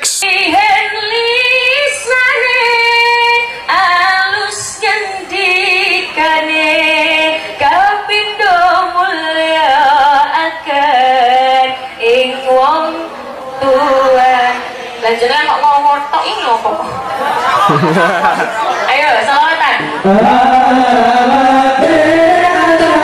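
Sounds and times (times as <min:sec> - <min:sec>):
woman singing devotional song: 0:00.2 - 0:17.3, 0:18.9 - 0:23.0.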